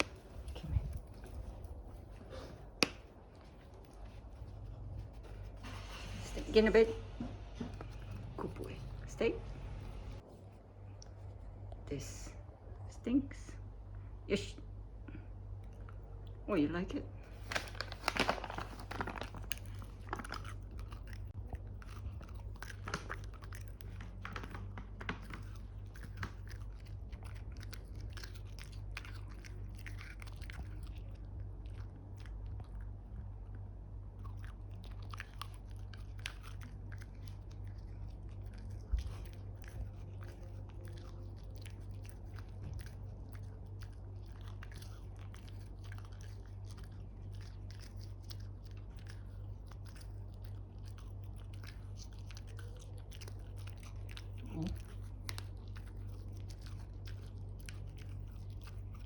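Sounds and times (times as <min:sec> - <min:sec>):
dog chewing and crunching: 0:00.0 - 0:11.7, 0:15.4 - 0:59.0
steady low hum: 0:00.0 - 0:59.0.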